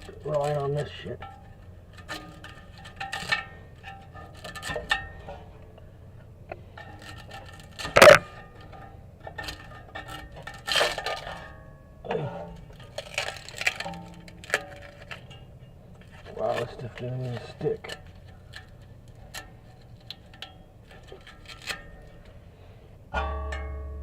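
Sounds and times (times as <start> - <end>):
metal clinks and scrapes on pipe: 0.0 - 24.0.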